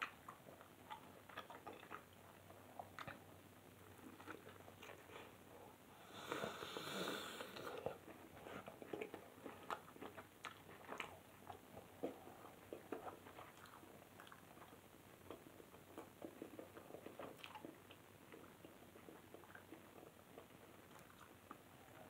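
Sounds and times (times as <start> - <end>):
person chewing with wet mouth clicks: 0.0 - 5.2, 6.2 - 22.0.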